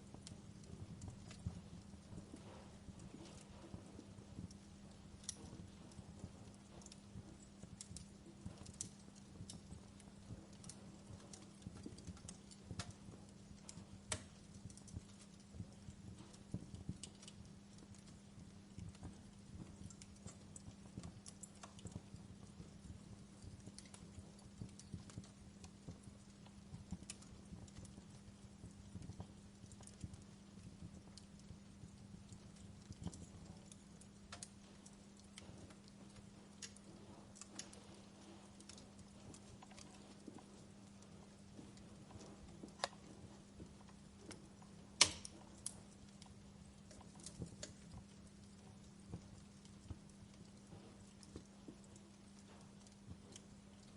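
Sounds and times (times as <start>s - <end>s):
faint low hum: 0.0s - 53.9s
fire popping: 0.0s - 53.9s
wood fire crackling: 0.0s - 53.9s.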